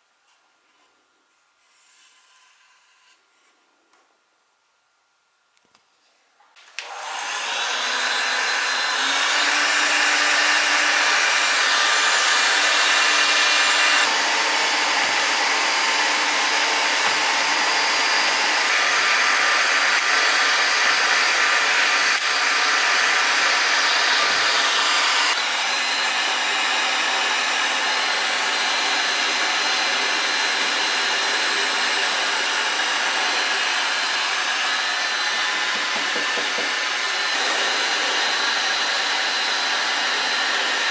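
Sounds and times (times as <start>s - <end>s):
power tool motor whirring: 6.7s - 40.9s.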